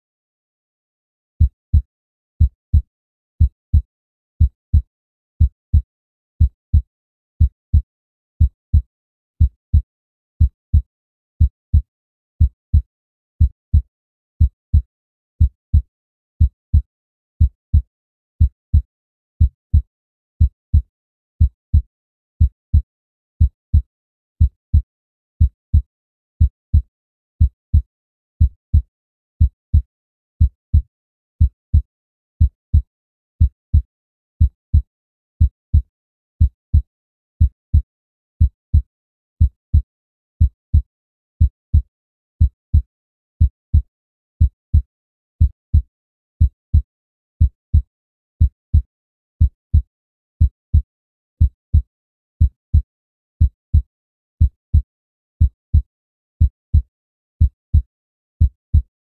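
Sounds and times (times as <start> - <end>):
human heartbeat: 1.4 - 58.9.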